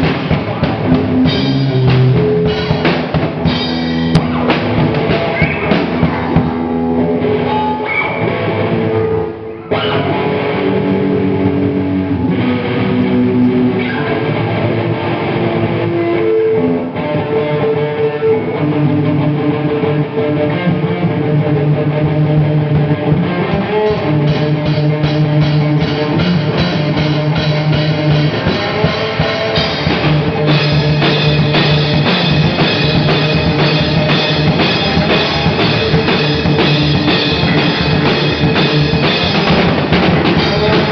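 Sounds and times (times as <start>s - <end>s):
rock band jamming: 0.0s - 40.9s.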